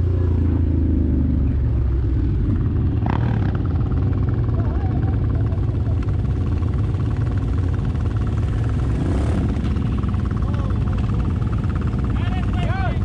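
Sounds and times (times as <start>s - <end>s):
atv engine running: 0.0s - 13.0s
atv engines idling: 0.0s - 13.0s.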